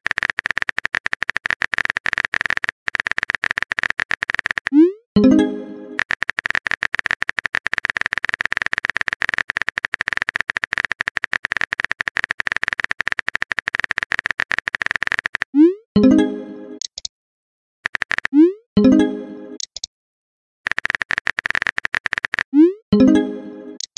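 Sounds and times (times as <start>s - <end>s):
keyboard typing clicks: 0.0s - 15.7s, 16.8s - 17.1s, 17.8s - 19.0s, 19.6s - 19.9s, 20.7s - 23.1s.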